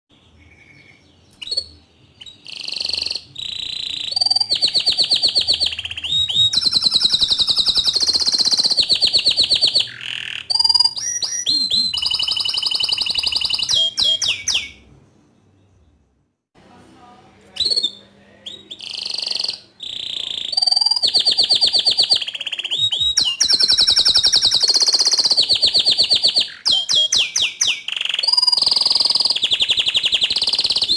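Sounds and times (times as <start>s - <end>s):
canary singing trills: 0.1s - 16.1s, 17.6s - 30.9s.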